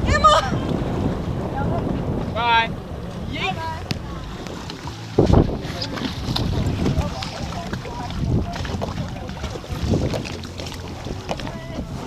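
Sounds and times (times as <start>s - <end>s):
steady low rumble: 0.0s - 12.0s
water splashes: 0.0s - 12.0s
wind buffeting microphone: 0.0s - 12.0s.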